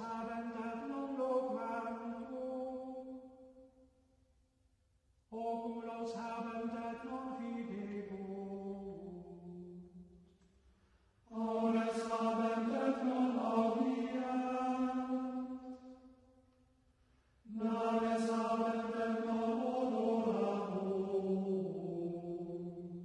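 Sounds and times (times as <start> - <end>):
chant sung: 0.0 - 3.6, 5.3 - 10.1, 11.3 - 16.1, 17.5 - 23.0.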